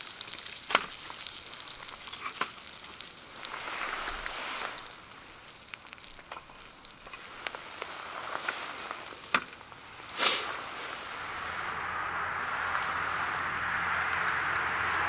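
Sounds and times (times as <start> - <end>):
wood fire crackling and hissing: 0.0 - 15.0.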